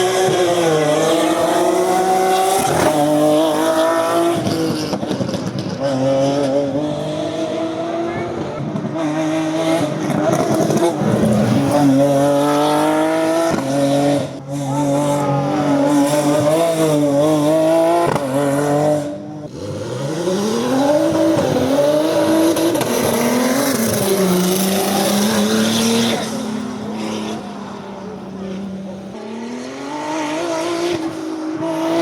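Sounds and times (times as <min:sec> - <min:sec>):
race car engine accelerating: 0:00.0 - 0:32.0.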